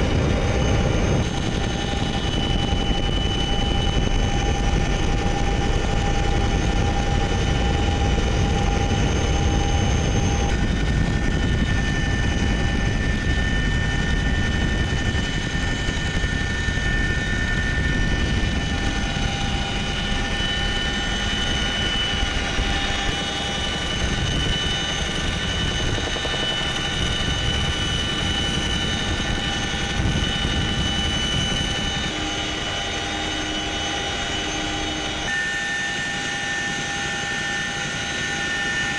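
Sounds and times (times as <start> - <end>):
helicopter engines and rotors din: 0.0 - 38.9
high steady whines: 0.0 - 38.9.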